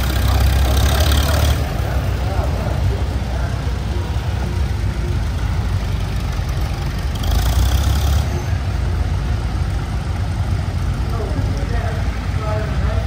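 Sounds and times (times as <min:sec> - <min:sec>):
old vehicle engine running: 0:00.0 - 0:13.0.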